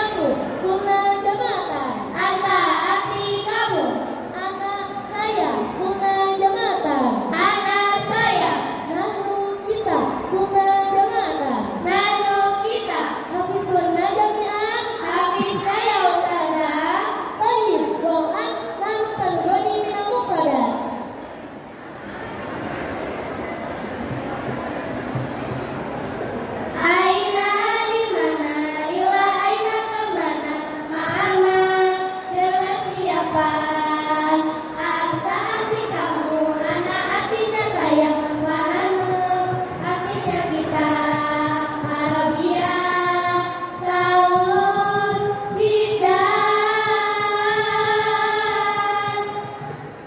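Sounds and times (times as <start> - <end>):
girls singing in unison: 0.0 - 18.0, 26.8 - 50.0.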